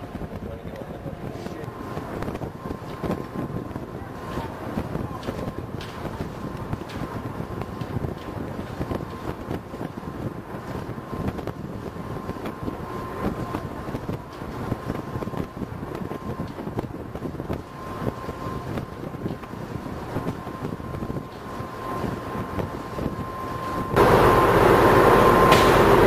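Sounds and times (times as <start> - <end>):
boat engine rumble: 0.0 - 26.0
wind buffeting microphone: 0.0 - 26.0.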